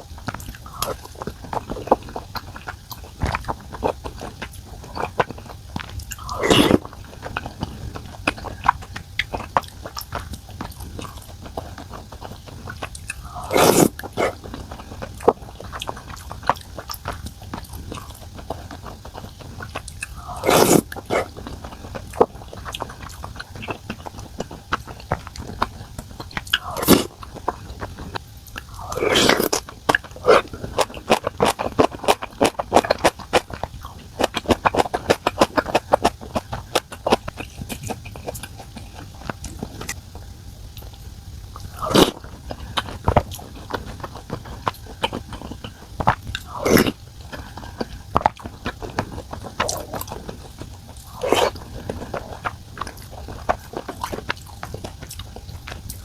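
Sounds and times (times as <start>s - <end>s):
loud mouth sounds: 0.0s - 40.1s, 40.8s - 56.0s
chewing and biting: 0.0s - 56.0s.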